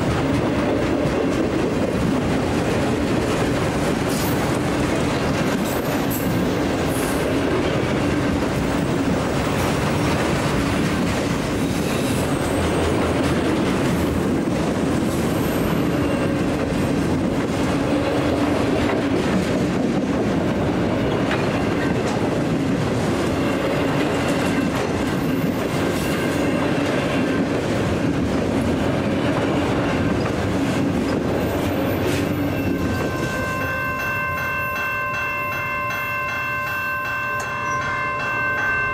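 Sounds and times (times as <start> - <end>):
clickety-clack over rail joints: 0.0 - 34.8
train wheels rumbling on rail: 0.0 - 38.9.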